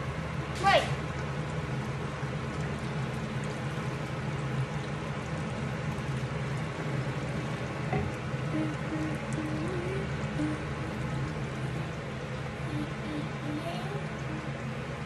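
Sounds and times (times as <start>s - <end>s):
sauce bubbling in a wok: 0.0s - 13.4s, 14.0s - 15.0s
constant low hum: 0.0s - 15.0s.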